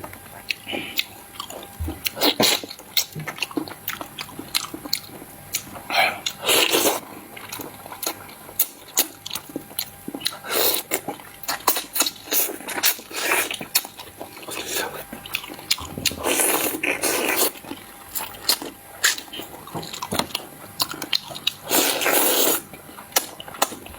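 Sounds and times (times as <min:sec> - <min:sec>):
chewing and mouth sounds: 0:00.0 - 0:23.9.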